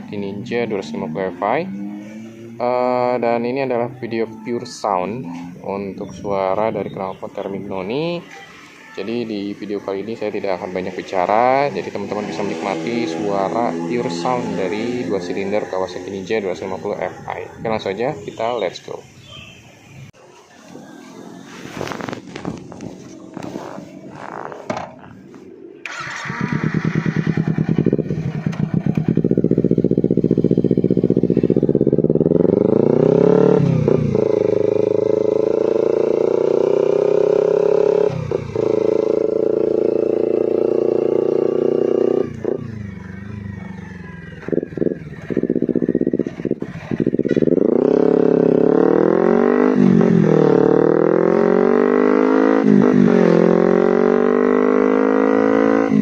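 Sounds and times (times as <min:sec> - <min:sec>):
motorcycle engine revving through gears: 0:00.0 - 0:03.5, 0:09.6 - 0:18.0, 0:21.0 - 0:56.0.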